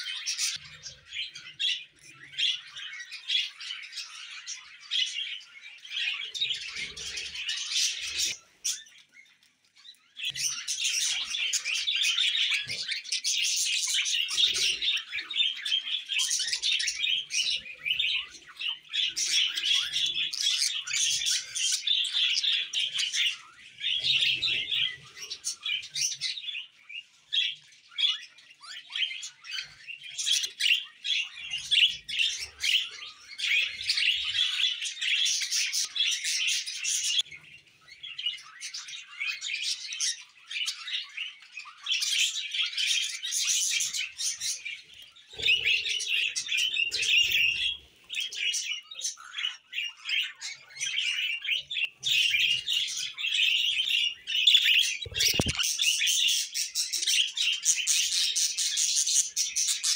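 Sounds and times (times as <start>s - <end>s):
budgerigars chattering and warbling: 0.0s - 59.9s.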